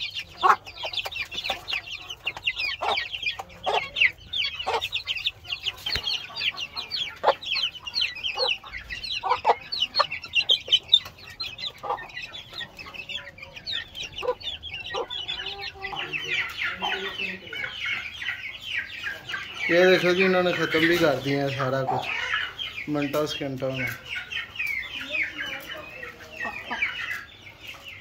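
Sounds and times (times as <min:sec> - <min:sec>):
chicks peeping: 0:00.0 - 0:28.0
hen clucking: 0:00.0 - 0:28.0.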